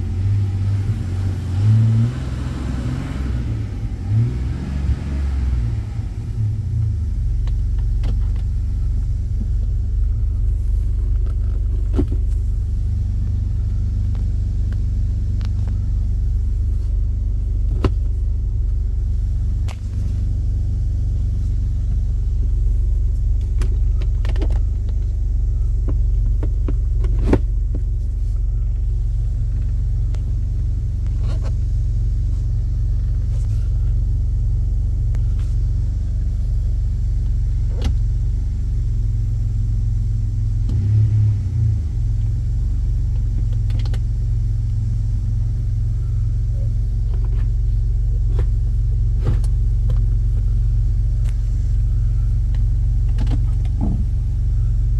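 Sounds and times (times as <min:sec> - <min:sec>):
engine low rumble: 0:00.0 - 0:54.9.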